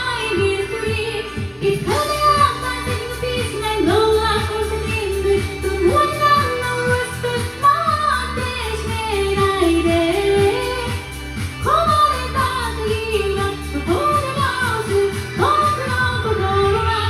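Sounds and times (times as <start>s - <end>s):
karaoke backing track with beat: 0.0s - 17.0s
woman singing pop song: 0.0s - 17.0s.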